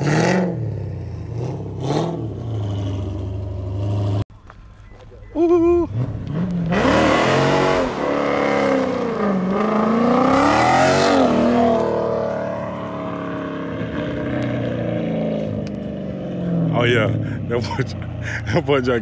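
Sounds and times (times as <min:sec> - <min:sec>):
car engine revving hard: 0:00.0 - 0:04.2, 0:05.9 - 0:17.5.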